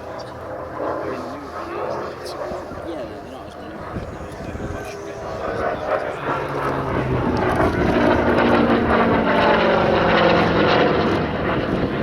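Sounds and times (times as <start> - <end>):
propeller plane engine: 0.0 - 12.0.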